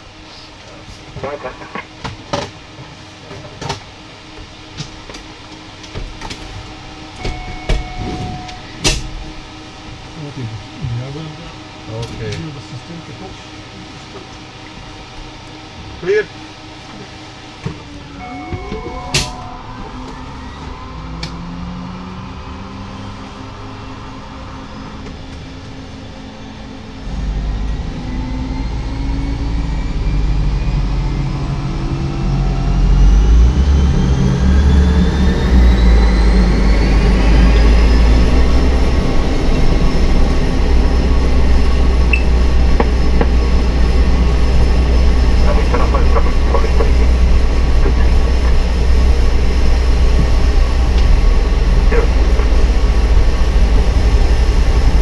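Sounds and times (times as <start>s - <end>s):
loud propeller drone: 0.0s - 55.0s
turbine whine: 0.0s - 55.0s.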